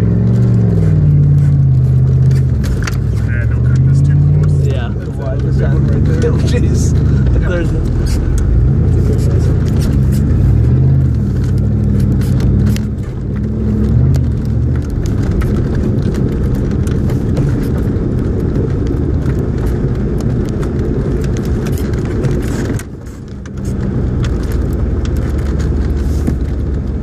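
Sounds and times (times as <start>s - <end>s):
vehicle engine while driving: 0.0s - 27.0s.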